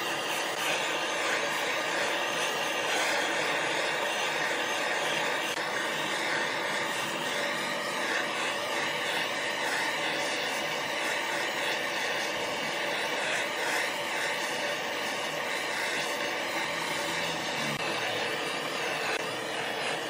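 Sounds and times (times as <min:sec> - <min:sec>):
gas torch hissing: 0:00.0 - 0:20.0.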